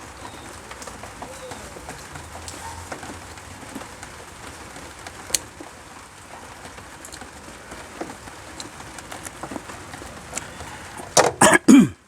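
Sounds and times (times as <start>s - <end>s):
small clicks and ticks: 0.0s - 10.8s.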